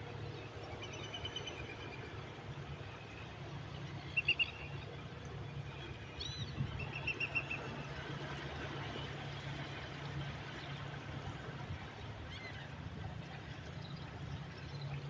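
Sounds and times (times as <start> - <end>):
sea surf: 1.6 - 15.0.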